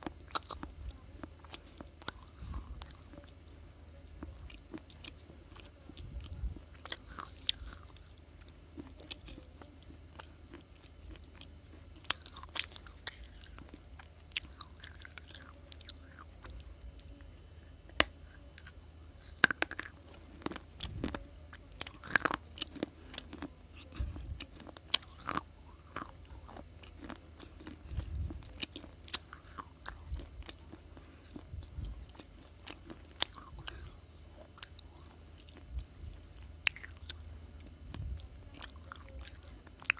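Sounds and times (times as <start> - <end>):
crunchy biting and chewing: 0.0 - 3.5, 4.1 - 17.2, 17.8 - 39.9.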